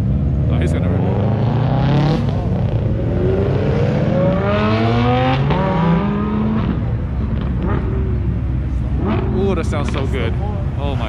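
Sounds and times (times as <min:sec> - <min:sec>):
car engine accelerating hard: 0:00.0 - 0:10.4.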